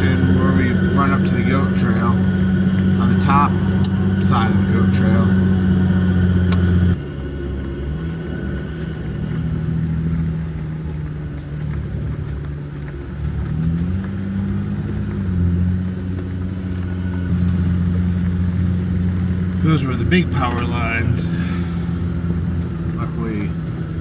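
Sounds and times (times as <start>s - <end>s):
diesel engine at low revs: 0.0s - 24.0s.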